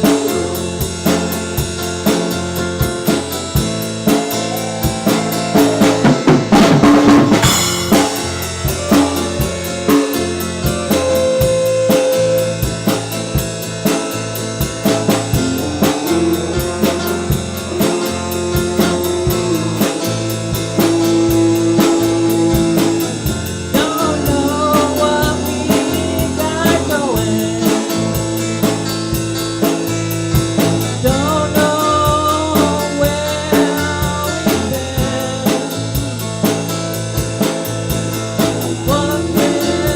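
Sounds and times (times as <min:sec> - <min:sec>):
blues-rock band playing: 0:00.0 - 0:39.9
steady drums: 0:00.0 - 0:39.9
lead guitar bending notes: 0:01.8 - 0:39.9.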